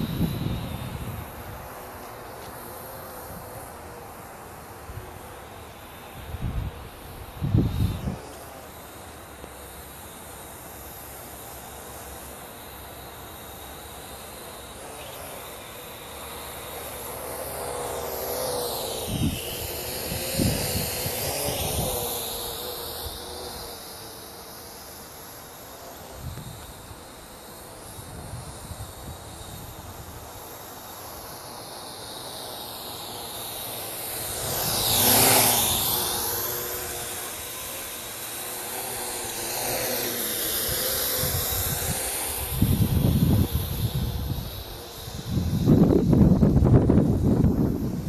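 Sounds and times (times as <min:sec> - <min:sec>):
drone rotors whirring: 0:00.0 - 0:48.0.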